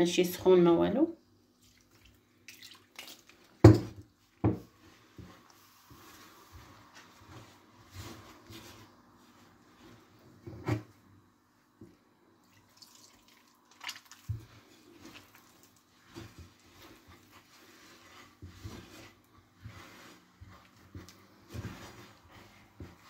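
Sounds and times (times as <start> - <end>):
hands squelching dough: 1.4 - 10.4, 11.9 - 23.0.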